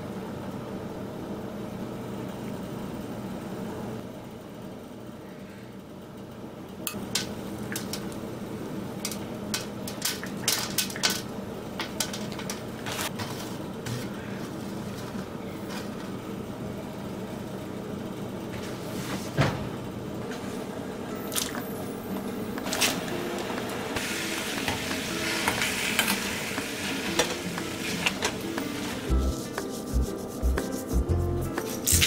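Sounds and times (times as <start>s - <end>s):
low kitchen hum: 0.0s - 32.0s.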